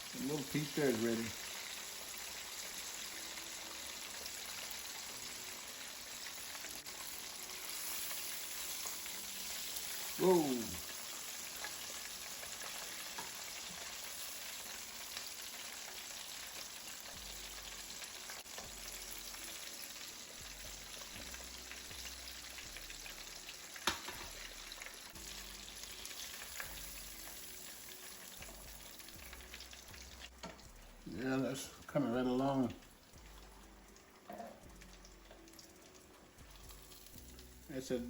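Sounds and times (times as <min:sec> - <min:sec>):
fish deep-frying in hot grease: 0:00.0 - 0:38.0.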